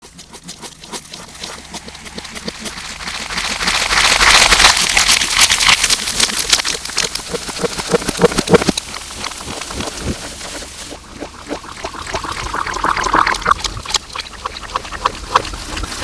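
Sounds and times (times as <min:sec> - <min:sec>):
slime squished wet crackling: 0:00.2 - 0:16.0.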